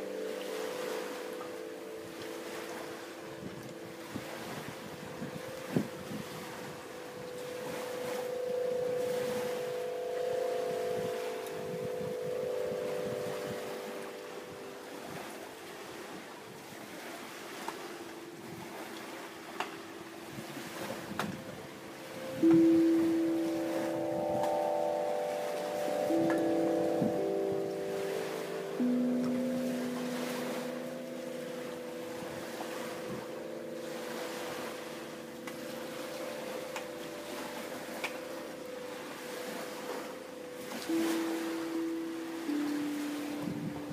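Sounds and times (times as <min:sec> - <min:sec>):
water rushing: 0:00.0 - 0:43.9
wind harp tones: 0:00.0 - 0:43.9.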